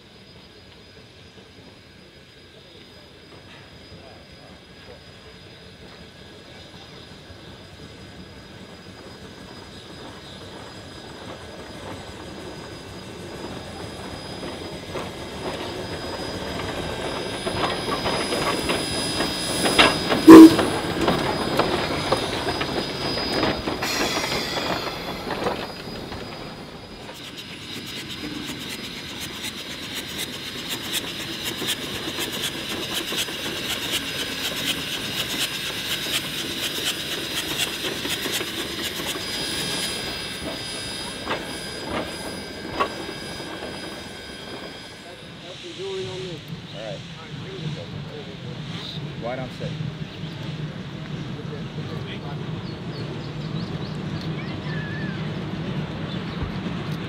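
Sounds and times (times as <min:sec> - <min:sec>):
steam locomotive rolling slowly: 0:00.0 - 0:57.0
locomotive wheels squealing: 0:00.1 - 0:57.0.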